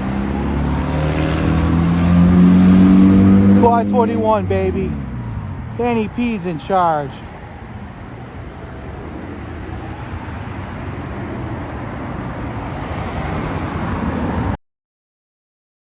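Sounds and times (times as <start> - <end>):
vehicle engine and road noise: 0.0 - 14.6.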